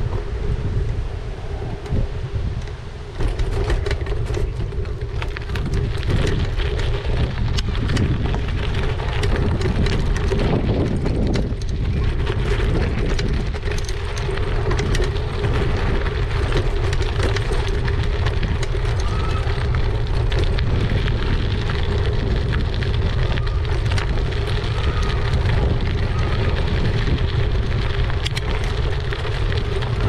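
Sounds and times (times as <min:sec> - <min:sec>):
bike tyres crunching over gravel: 0:00.0 - 0:30.0
wind rumbling on microphone: 0:00.0 - 0:30.0.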